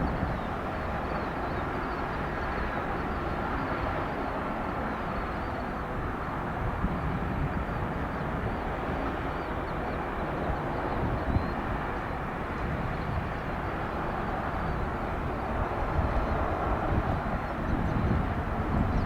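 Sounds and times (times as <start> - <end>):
distant jet airliner approaching: 0.0 - 19.0.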